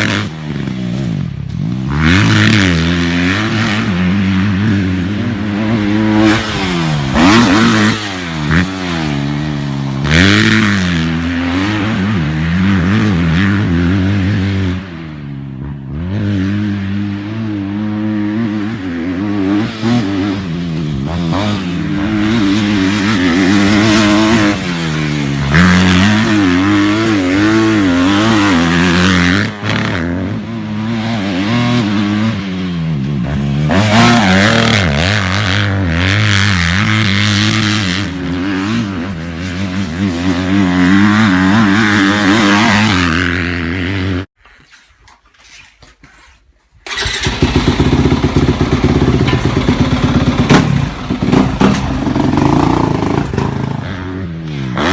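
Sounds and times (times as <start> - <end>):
dirt bike engines revving: 0.0 - 44.3, 46.8 - 54.9.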